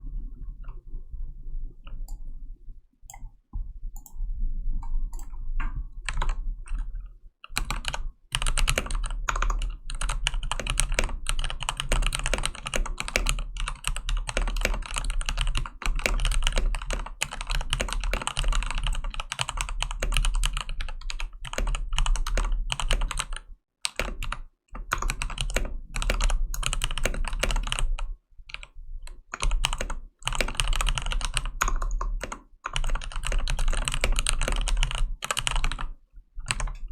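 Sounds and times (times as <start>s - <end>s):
mechanical keyboard typing: 5.1s - 6.9s, 7.5s - 28.7s, 29.3s - 36.9s.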